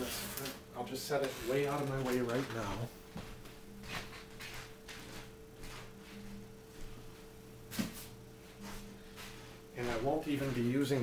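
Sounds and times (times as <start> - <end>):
steady low hum: 0.0 - 11.0
faint knocks and shuffles: 1.7 - 11.0.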